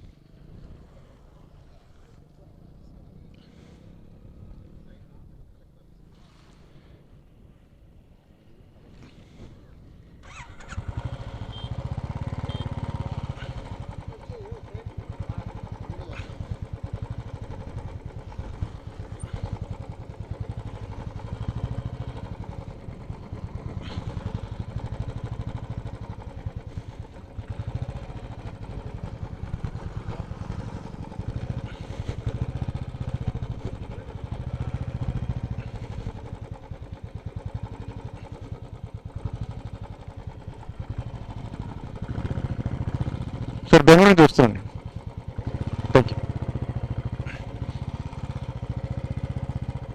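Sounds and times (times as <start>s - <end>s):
motorcycle engine running: 0.2s - 5.4s, 9.5s - 49.9s.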